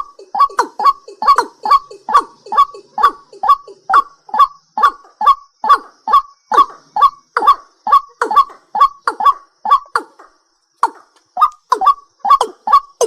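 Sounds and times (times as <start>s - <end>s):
night bird honking call: 0.0s - 13.0s.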